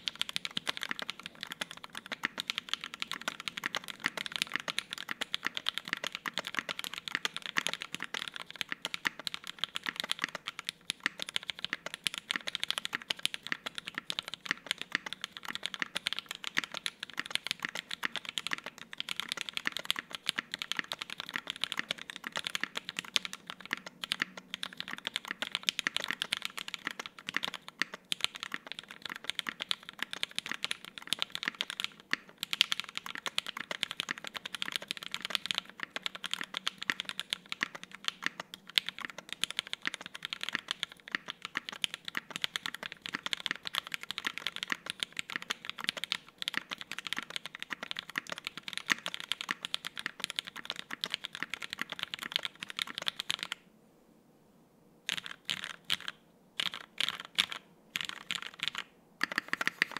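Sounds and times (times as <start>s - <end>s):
mechanical keyboard typing: 0.0s - 53.6s, 55.1s - 59.9s.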